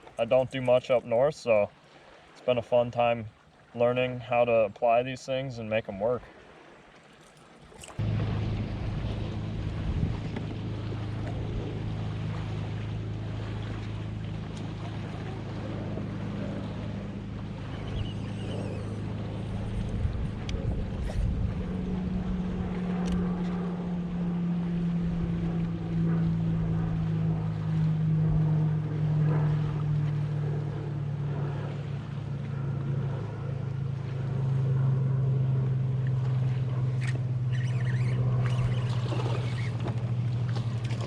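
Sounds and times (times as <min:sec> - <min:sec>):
boat motor running: 0:00.0 - 0:04.9, 0:05.6 - 0:41.0.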